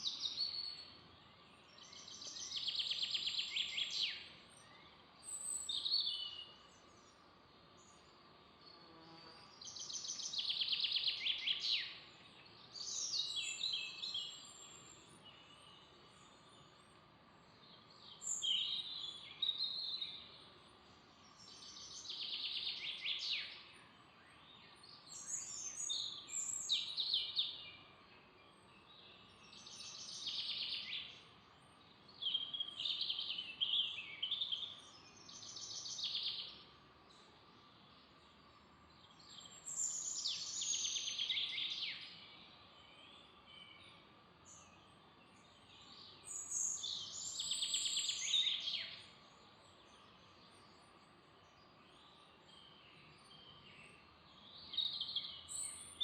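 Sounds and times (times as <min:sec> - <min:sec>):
songbird singing trilled notes: 0:00.0 - 0:56.0.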